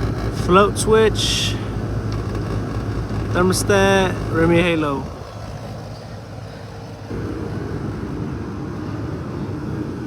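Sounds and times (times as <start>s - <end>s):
steady tone: 0.0s - 9.2s
hvac unit humming: 0.0s - 10.0s.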